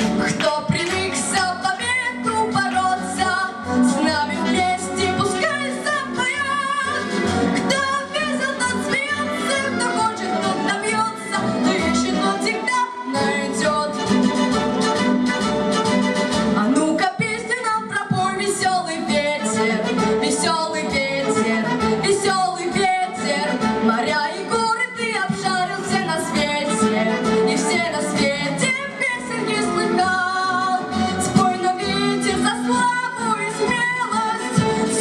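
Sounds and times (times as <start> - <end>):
instrumental accompaniment: 0.0 - 35.0
girl singing: 0.2 - 14.0, 16.6 - 35.0.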